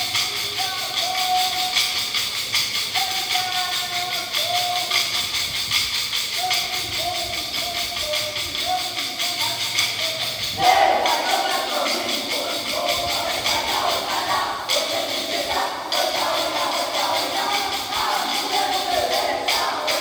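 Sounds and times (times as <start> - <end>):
wooden sticks clacking: 0.0 - 20.0.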